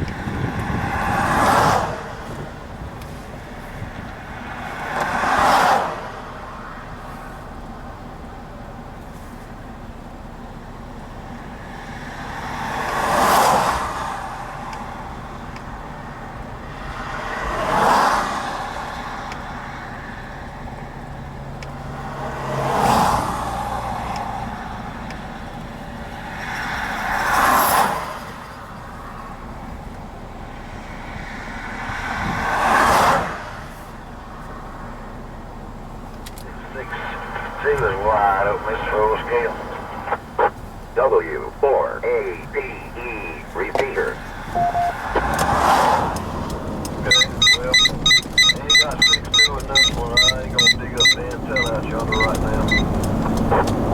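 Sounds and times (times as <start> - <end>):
vehicles passing by: 0.0 - 53.9.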